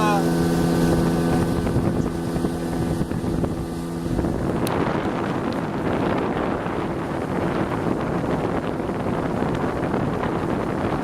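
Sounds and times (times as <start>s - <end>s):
outboard motor running: 0.0s - 11.0s
rushing water: 0.0s - 11.0s
wind on microphone: 0.0s - 11.0s.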